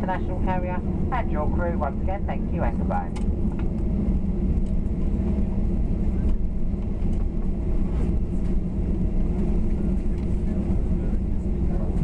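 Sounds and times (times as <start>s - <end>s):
aircraft cabin engine rumble: 0.0s - 12.0s
faint steady hums: 0.0s - 12.0s.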